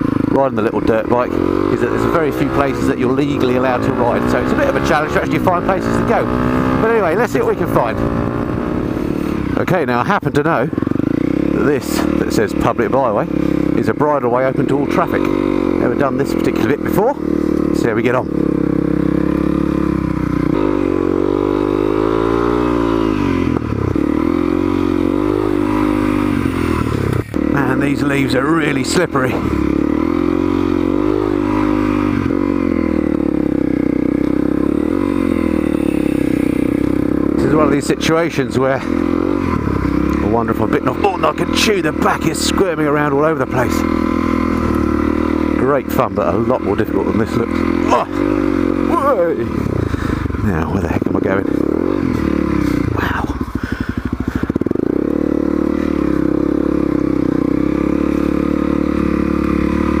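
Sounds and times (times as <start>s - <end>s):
dirt bike engine at low revs: 0.0s - 60.0s.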